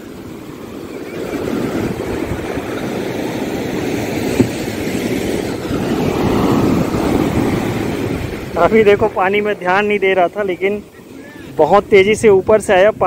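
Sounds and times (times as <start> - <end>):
surf rushing over sand: 0.0 - 13.0
wind rumble on microphone: 0.0 - 13.0.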